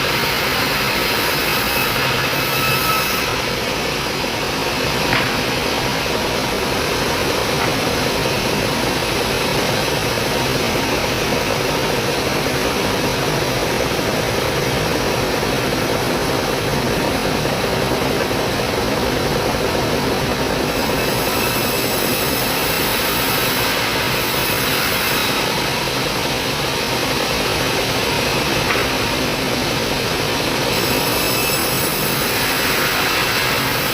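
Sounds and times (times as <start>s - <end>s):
band saw running: 0.0s - 19.2s, 19.9s - 33.9s.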